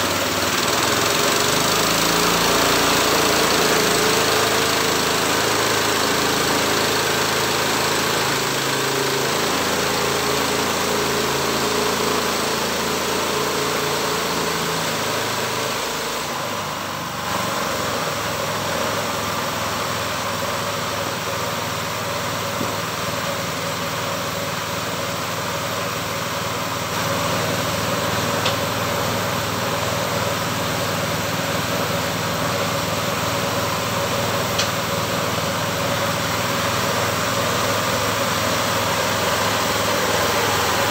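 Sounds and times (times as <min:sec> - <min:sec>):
engine driving a sawmill: 0:00.0 - 0:40.9.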